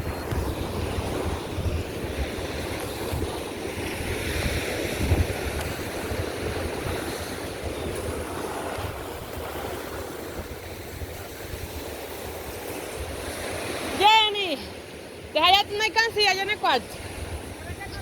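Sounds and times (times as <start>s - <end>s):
waves washing on beach: 0.0s - 18.0s
wind buffeting microphone: 0.0s - 18.0s.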